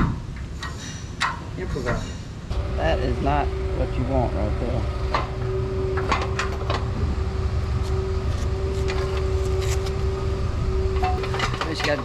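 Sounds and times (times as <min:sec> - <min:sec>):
engine running with rumble: 0:01.8 - 0:12.0.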